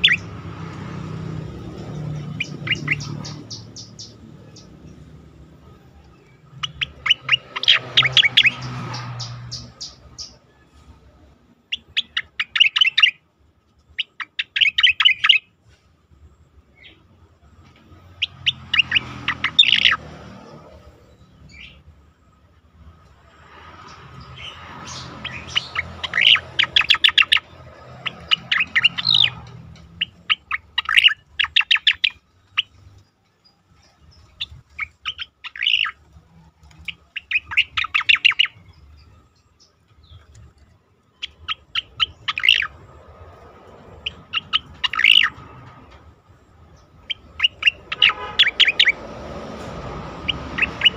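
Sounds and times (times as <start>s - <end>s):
bird chattering song: 0.0s - 10.6s, 11.6s - 13.2s, 13.9s - 15.5s, 17.9s - 21.9s, 23.5s - 49.2s, 50.2s - 50.9s.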